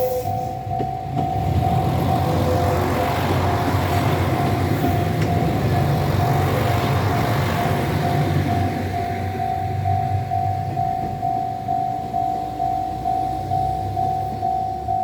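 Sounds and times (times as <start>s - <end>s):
level crossing warning bell: 0.0s - 15.0s
train rumbling past: 0.0s - 15.0s.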